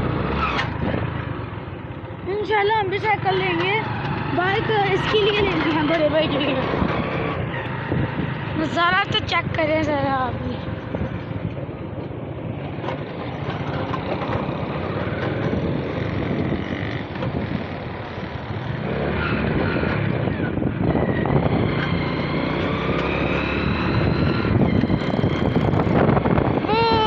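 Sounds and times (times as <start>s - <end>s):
motorcycle engine running: 0.0s - 27.0s
road and wind noise: 0.0s - 27.0s.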